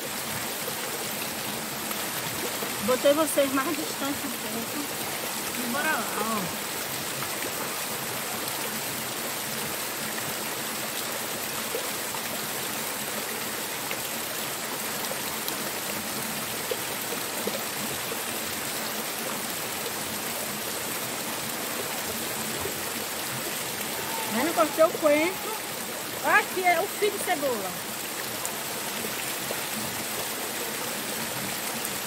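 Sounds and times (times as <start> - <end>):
small waterfall over rocks: 0.0 - 32.0.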